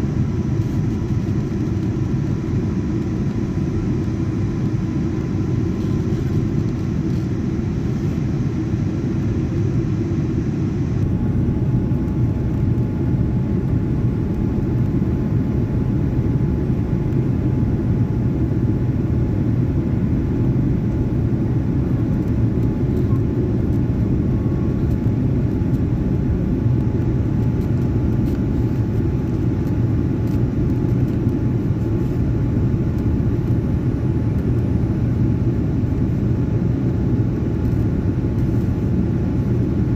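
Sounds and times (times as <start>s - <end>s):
faint steady whine: 0.0s - 39.9s
jet engine cabin rumble: 0.0s - 39.9s.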